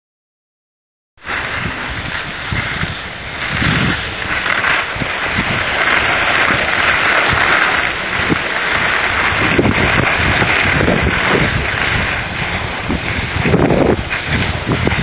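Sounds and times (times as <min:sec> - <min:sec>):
skis scraping on snow: 0:01.2 - 0:15.0
wind on microphone: 0:01.2 - 0:15.0.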